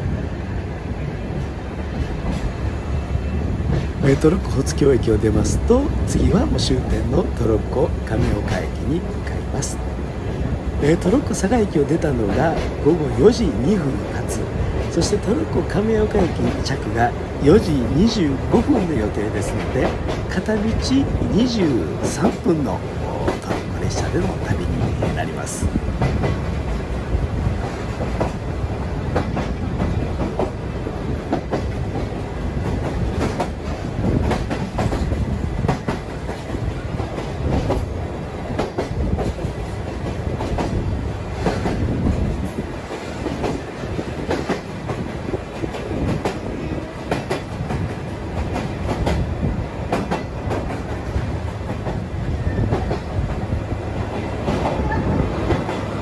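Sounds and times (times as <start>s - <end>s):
train cars rumbling: 0.0s - 56.0s
wheels clacking over rail joints: 11.0s - 56.0s.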